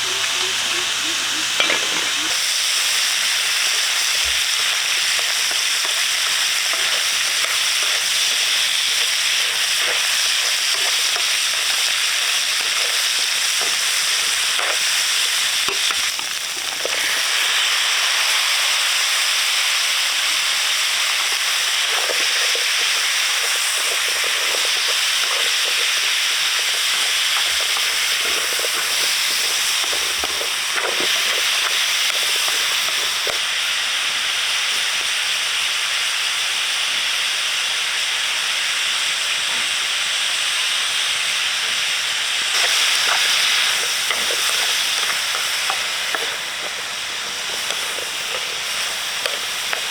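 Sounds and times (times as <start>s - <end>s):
food sizzling in a hot pan: 0.0s - 49.9s.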